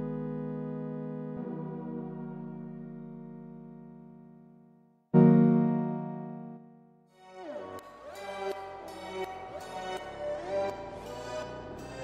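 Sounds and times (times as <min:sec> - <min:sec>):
slowed reverb-heavy hyperpop music: 0:00.0 - 0:12.0.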